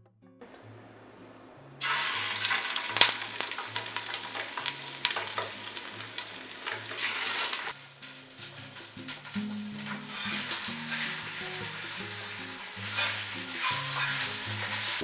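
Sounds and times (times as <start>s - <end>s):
crackles and spits of oil: 1.8s - 15.0s
meat searing in hot oil: 1.8s - 15.0s.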